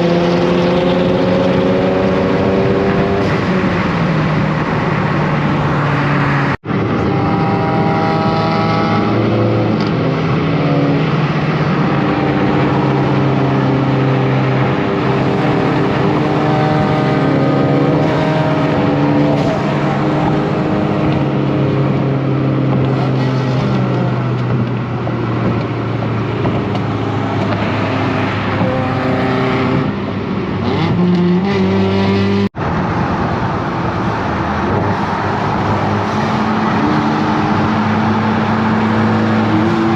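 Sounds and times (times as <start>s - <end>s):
car engine and exhaust droning: 0.0s - 39.9s.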